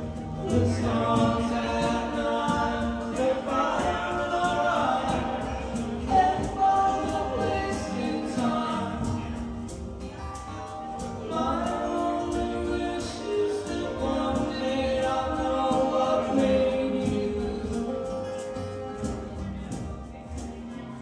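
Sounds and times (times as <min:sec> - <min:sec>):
voices singing in harmony: 0:00.0 - 0:09.9, 0:11.0 - 0:18.8
strummed acoustic guitars: 0:00.0 - 0:21.0.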